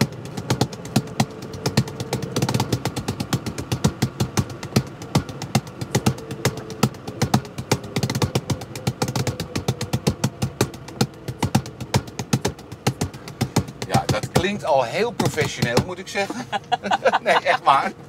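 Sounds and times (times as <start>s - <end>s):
hands drumming on car seat: 0.0s - 17.0s
car engine humming: 0.0s - 18.0s.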